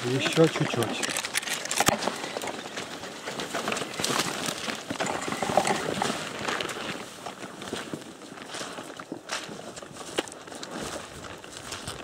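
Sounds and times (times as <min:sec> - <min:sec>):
footsteps in brush: 0:00.0 - 0:12.0
leaves and branches rustling: 0:00.0 - 0:12.0
twigs crackling: 0:00.0 - 0:12.0.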